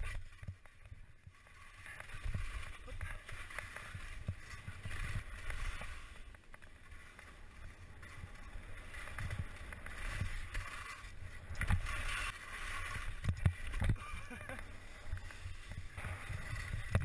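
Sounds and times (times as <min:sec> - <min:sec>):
skis scraping over snow: 0:00.0 - 0:17.0.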